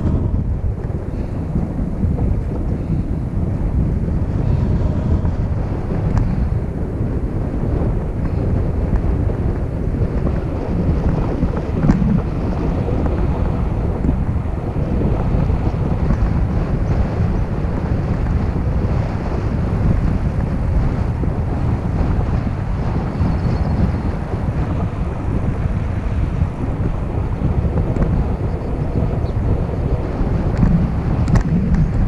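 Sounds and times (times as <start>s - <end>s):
vehicle rumble: 0.0s - 32.0s
wind buffeting microphone: 0.0s - 32.0s.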